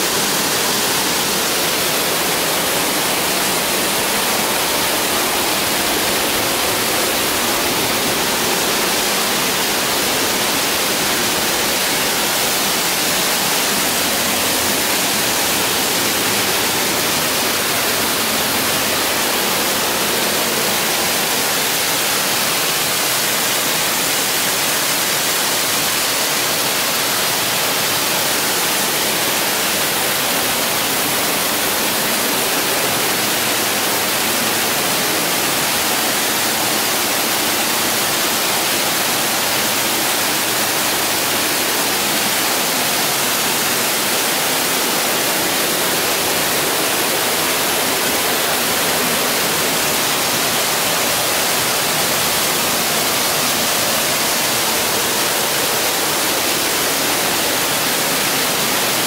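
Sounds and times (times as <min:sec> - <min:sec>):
waterfall rushing and splashing: 0:00.0 - 0:59.0.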